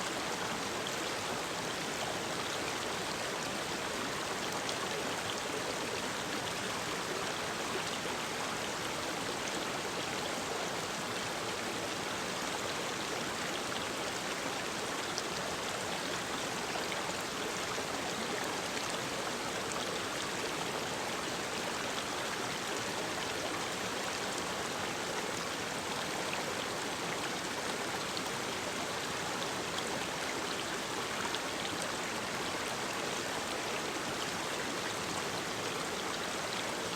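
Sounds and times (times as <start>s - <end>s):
stream water rushing: 0.0s - 36.9s.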